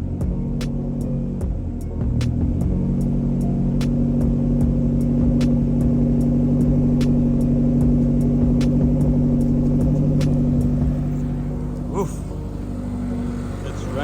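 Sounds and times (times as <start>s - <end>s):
car engine at raised idle: 0.0s - 14.0s
sharp engine ticks: 0.0s - 14.0s.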